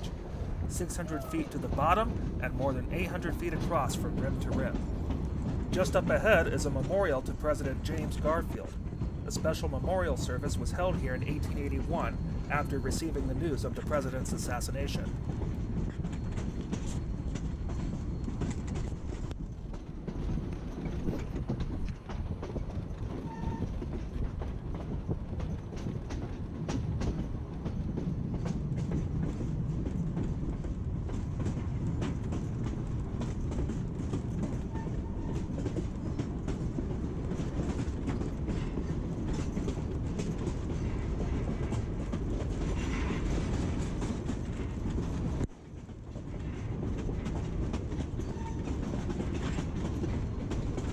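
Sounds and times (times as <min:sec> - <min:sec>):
train cars rumbling: 0:00.0 - 0:50.9
wheels clicking over rail joints: 0:00.0 - 0:50.9.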